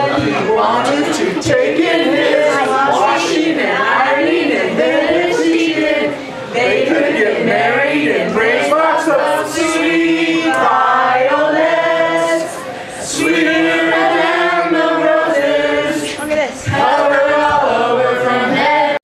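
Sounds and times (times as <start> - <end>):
group of people singing: 0.0 - 19.0.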